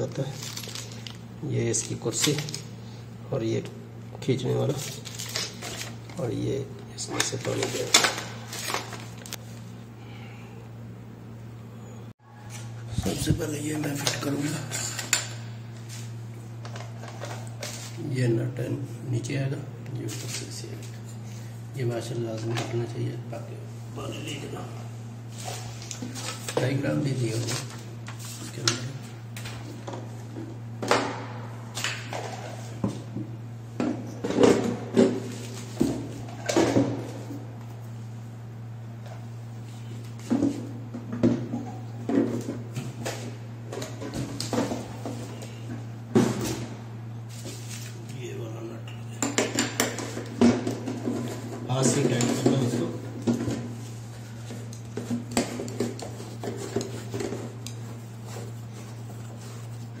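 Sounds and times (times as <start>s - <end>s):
steady low hum: 0.0s - 60.0s.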